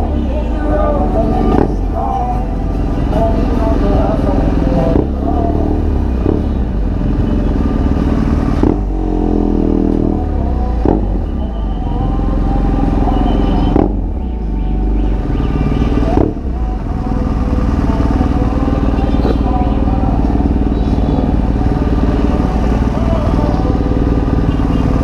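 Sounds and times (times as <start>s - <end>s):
motorcycle engine rumble: 0.0s - 25.0s.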